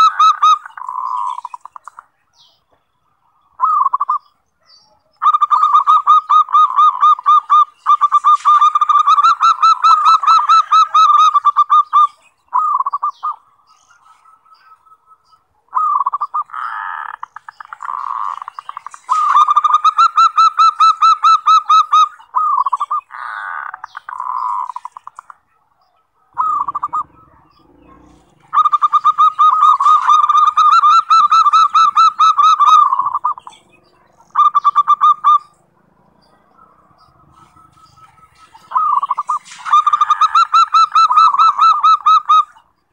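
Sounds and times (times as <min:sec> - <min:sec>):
dove cooing: 0:00.0 - 0:02.0, 0:03.6 - 0:04.3, 0:05.2 - 0:15.0, 0:15.7 - 0:25.4, 0:26.2 - 0:42.7.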